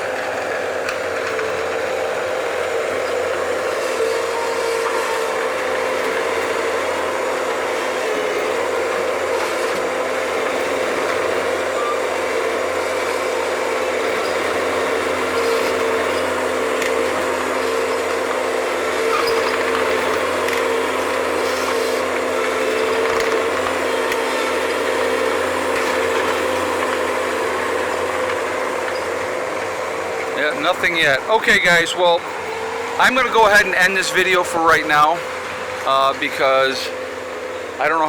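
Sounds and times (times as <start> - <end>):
skid-steer loader engine whine: 0.0 - 38.0.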